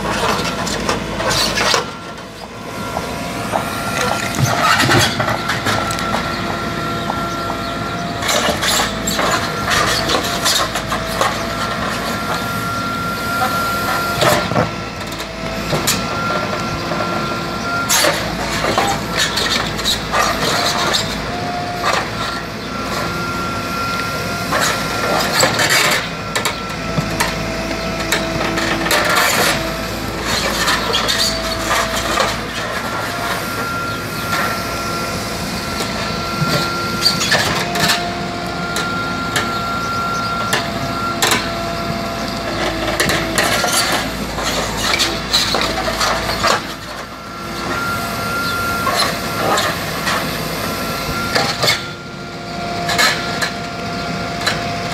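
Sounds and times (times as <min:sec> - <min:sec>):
digger engine whining: 0:00.0 - 0:54.9.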